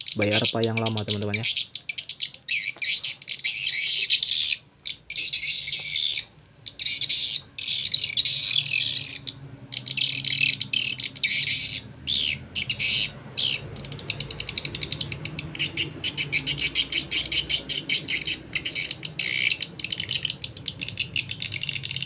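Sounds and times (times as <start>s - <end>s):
high twittering bird chirps: 0.0s - 22.0s.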